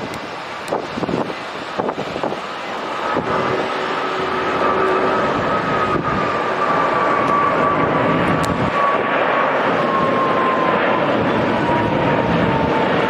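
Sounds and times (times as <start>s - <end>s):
jet engine roar with whine: 0.0s - 13.0s.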